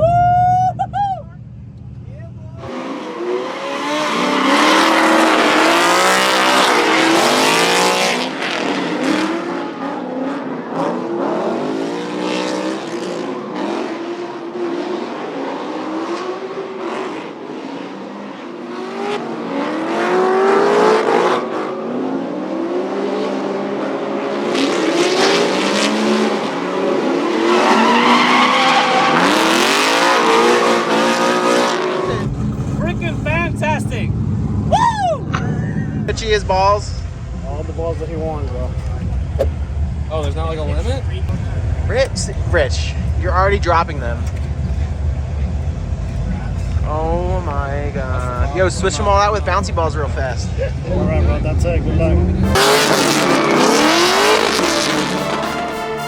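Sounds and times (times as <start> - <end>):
car engine revving: 0.8 - 56.0
tires squealing: 2.6 - 56.0.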